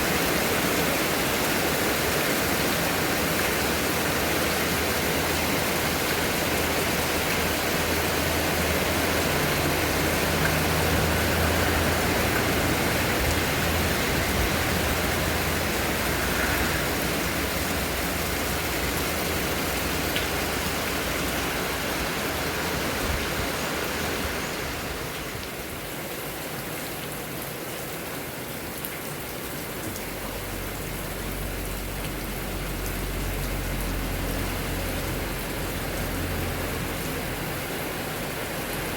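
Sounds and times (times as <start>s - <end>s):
rain in strong wind: 0.0s - 38.9s.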